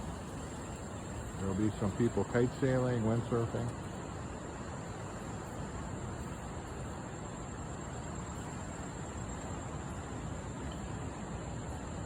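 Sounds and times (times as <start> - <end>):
steady rushing beach noise: 0.0 - 12.0.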